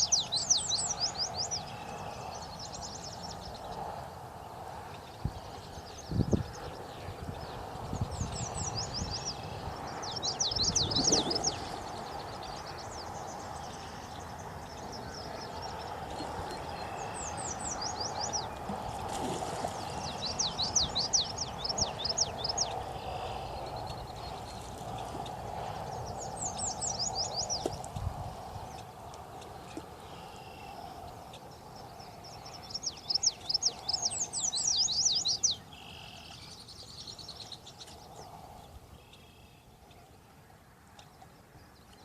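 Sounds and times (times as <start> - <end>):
songbird singing: 0.0 - 42.0.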